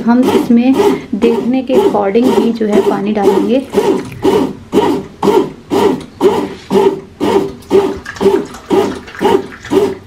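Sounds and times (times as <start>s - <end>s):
dough kneader churning dough: 0.0s - 10.0s.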